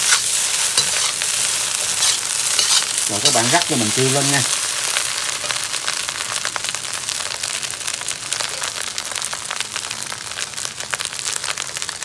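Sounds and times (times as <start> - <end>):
rice sizzling in a wok: 0.0 - 12.0.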